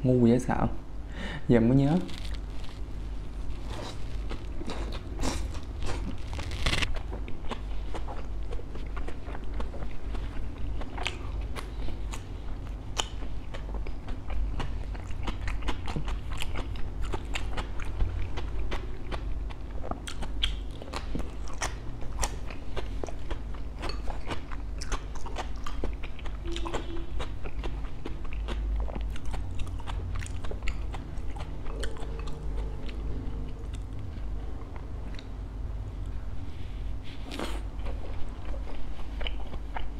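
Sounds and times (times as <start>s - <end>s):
crunchy chewing: 1.8s - 35.3s, 37.0s - 39.9s.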